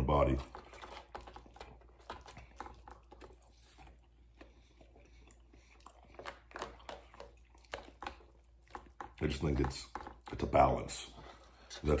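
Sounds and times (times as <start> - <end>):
man chewing food: 0.0 - 12.0.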